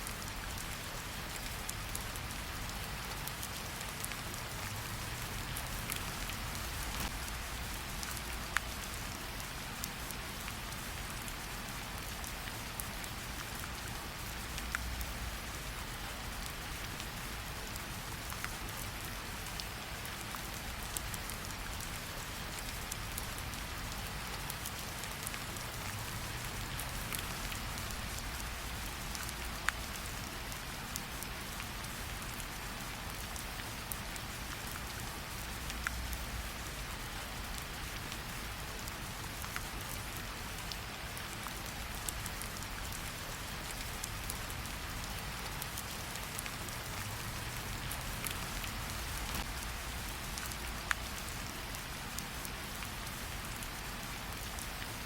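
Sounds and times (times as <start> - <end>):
rain falling: 0.0 - 55.0
campfire crackles: 0.1 - 55.0.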